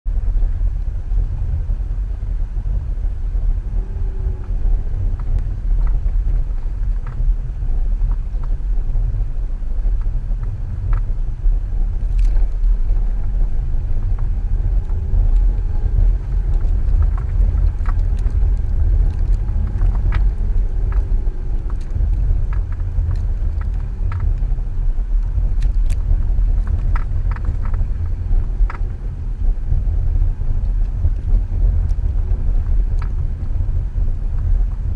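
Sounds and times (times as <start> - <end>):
car driving through snow: 0.1 - 34.9.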